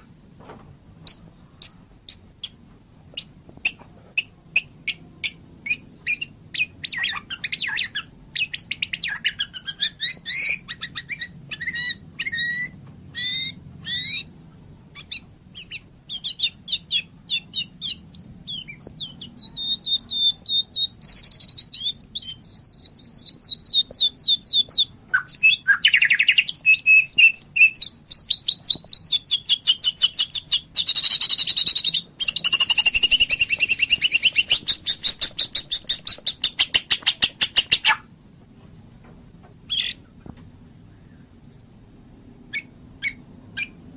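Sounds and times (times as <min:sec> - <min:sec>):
bird singing with trills: 0:01.0 - 0:02.6, 0:03.2 - 0:38.4, 0:39.7 - 0:40.0, 0:42.5 - 0:43.8.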